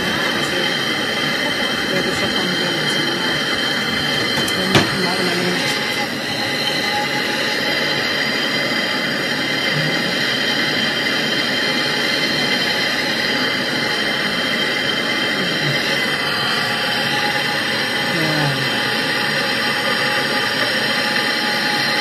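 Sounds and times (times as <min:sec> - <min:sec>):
gas torch flame hissing: 0:00.0 - 0:22.0.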